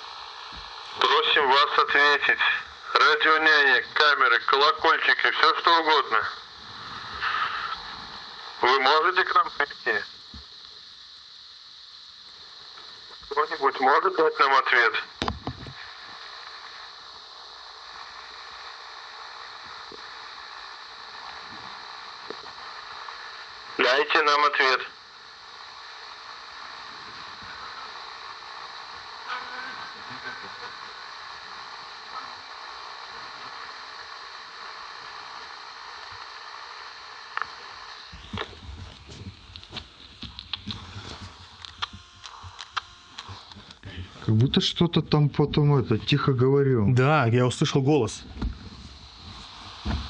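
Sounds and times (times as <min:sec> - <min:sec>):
faint high whine: 0:00.0 - 0:50.0
steady hiss: 0:00.0 - 0:50.0.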